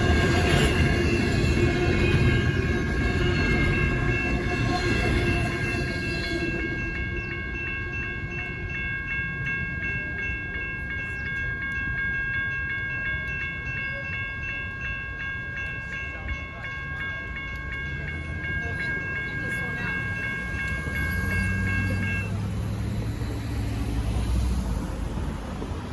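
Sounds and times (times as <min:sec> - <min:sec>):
freight train rumble: 0:00.0 - 0:25.9
railroad crossing bell ringing: 0:00.0 - 0:25.9.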